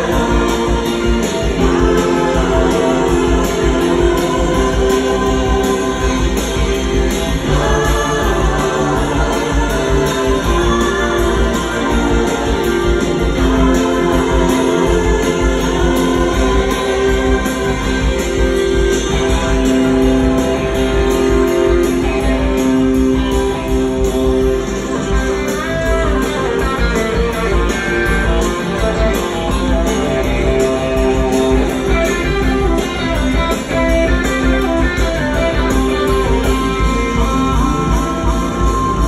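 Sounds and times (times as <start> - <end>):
live rock band with electric guitar: 0.0 - 39.0.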